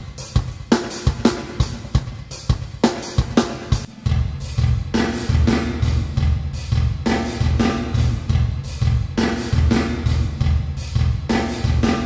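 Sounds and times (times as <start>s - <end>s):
drum kit beat with reverb: 0.0s - 12.0s.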